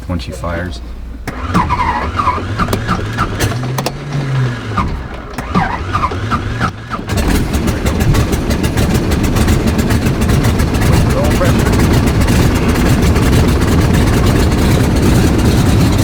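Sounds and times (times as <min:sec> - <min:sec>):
engine cylinders popping: 0:00.0 - 0:16.0
radial engine cranking and starting: 0:00.0 - 0:16.0.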